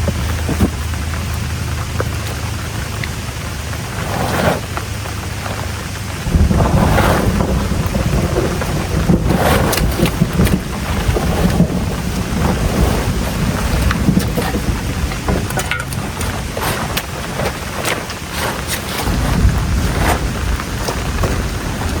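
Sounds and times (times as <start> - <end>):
low rumble: 0.0 - 22.0
rain falling: 0.0 - 22.0.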